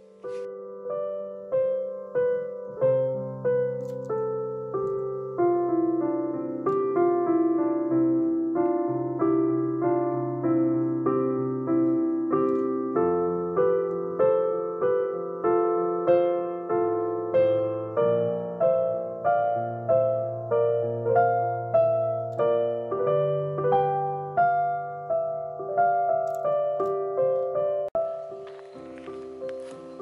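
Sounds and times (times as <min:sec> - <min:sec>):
slow gentle piano piece: 0:00.0 - 0:30.0.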